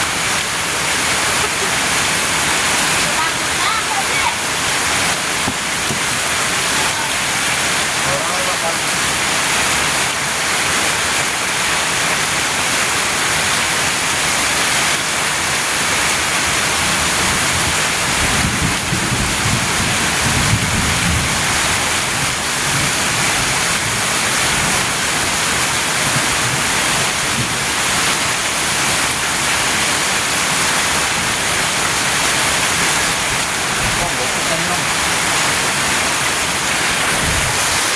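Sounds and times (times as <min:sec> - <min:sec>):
heavy rain pouring: 0:00.0 - 0:37.9.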